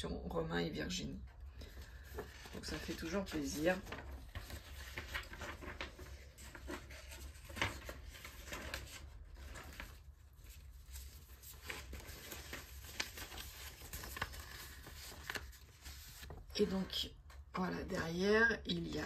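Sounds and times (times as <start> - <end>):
paper rustling and crinkling: 1.4 - 17.0.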